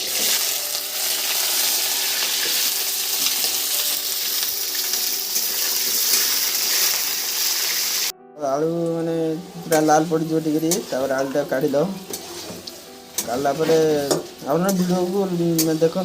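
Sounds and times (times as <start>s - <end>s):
potatoes sizzling in oil: 0.0s - 8.1s, 9.0s - 16.0s.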